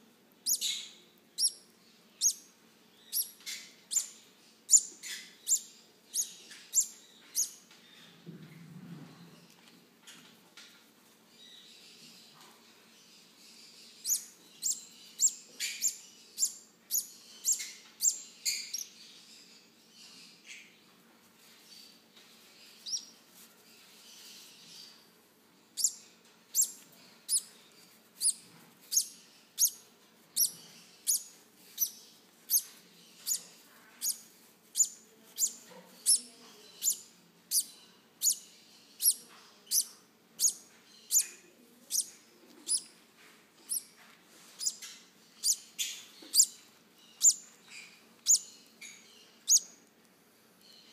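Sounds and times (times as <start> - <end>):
parrot chicks chirping: 0.4 - 7.8, 13.1 - 20.9, 21.6 - 25.0, 25.6 - 43.0, 43.6 - 49.9.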